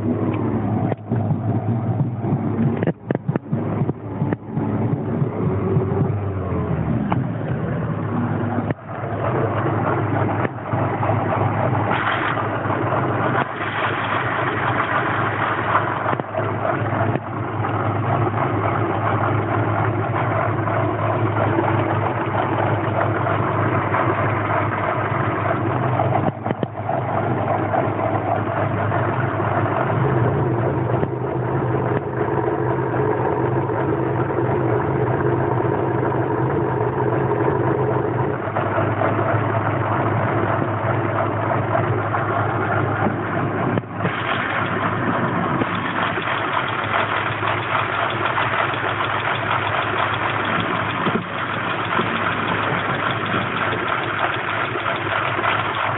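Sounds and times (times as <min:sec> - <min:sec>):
car engine idling roughly: 0:00.0 - 0:55.9.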